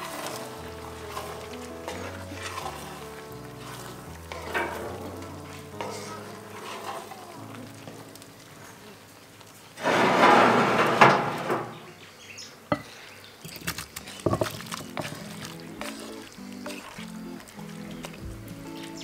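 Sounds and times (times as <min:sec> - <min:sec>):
wooden spoon stirring in a pot: 0:00.0 - 0:10.9, 0:12.7 - 0:19.0
food sizzling: 0:00.0 - 0:12.0, 0:12.6 - 0:19.0.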